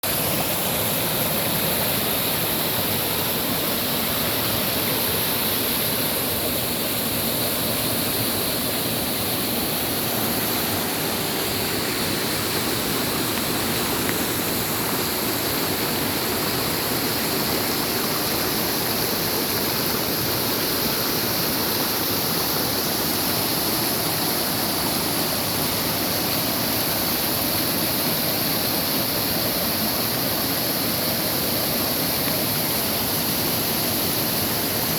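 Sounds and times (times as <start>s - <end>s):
waterfall pouring: 0.0s - 34.9s.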